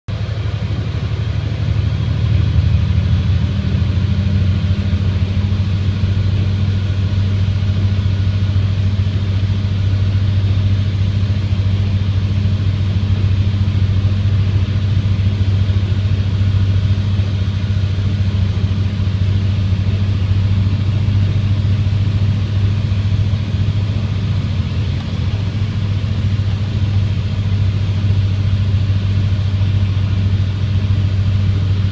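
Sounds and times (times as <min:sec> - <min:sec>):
vehicle engine droning: 0:00.1 - 0:31.9.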